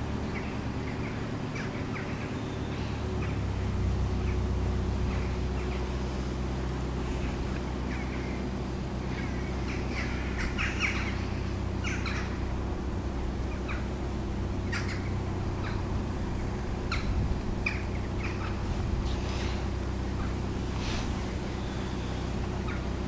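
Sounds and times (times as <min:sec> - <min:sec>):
birds chirping: 0:00.0 - 0:23.0
boat diesel engine humming: 0:00.0 - 0:23.0.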